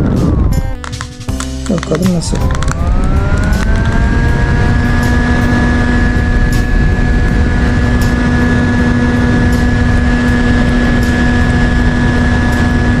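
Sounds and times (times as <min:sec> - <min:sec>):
heavy low rumble: 0:00.0 - 0:13.0
steady motor hum: 0:02.4 - 0:13.0.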